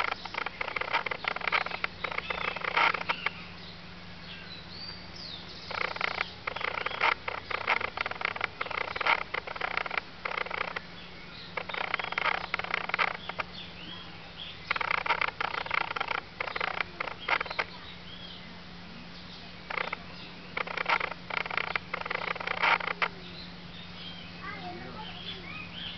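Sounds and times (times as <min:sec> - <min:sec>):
faint bird chirps: 0:00.0 - 0:25.9.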